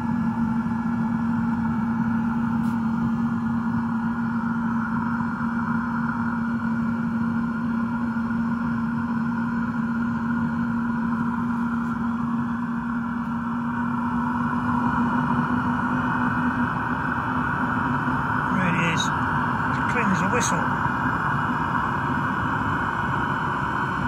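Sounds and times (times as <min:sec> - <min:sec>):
diesel air heater humming: 0:00.0 - 0:24.0.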